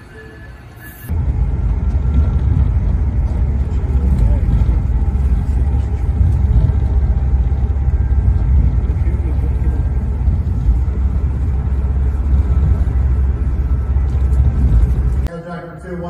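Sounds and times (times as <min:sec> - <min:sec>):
train rumbling inside car: 0:00.0 - 0:15.3.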